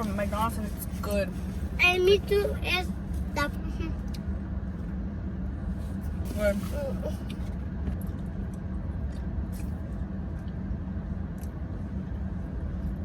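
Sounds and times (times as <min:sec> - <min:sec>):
air conditioning running: 0:00.0 - 0:13.0
car interior rumble and hum: 0:00.0 - 0:13.0.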